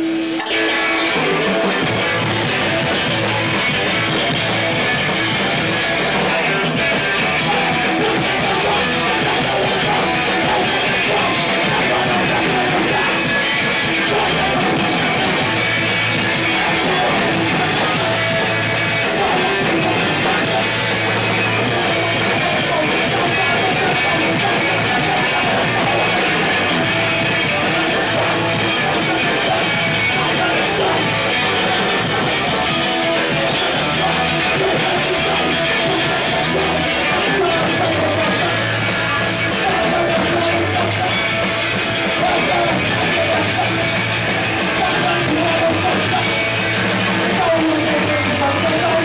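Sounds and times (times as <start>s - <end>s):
punk band playing live: 0.0s - 49.0s.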